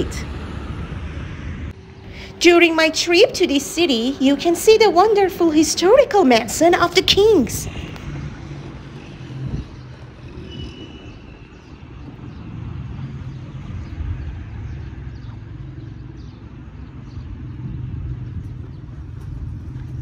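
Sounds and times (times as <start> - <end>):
low rumble of vehicle engines: 0.0 - 20.0.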